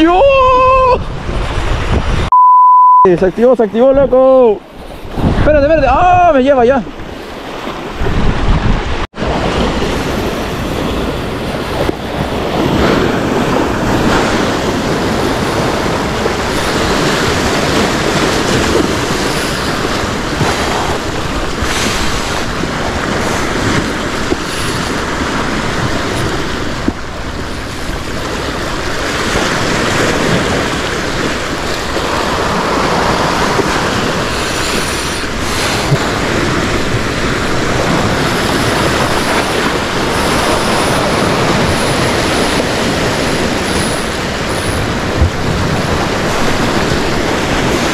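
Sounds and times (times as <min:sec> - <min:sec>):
wind noise on microphone: 0:00.0 - 0:02.3, 0:04.8 - 0:47.9
surf washing against shore: 0:03.1 - 0:47.9.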